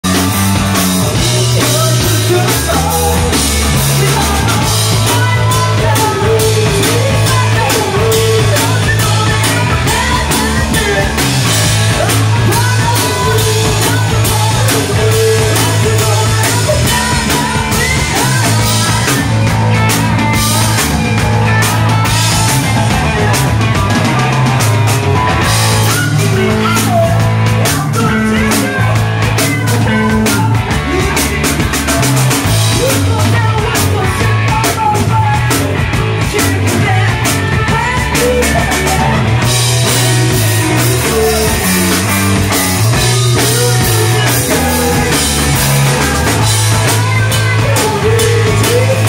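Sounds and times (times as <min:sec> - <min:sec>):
drum kit beat: 0:00.0 - 0:49.0
electric guitar: 0:00.0 - 0:49.0
woman singing: 0:00.2 - 0:49.0.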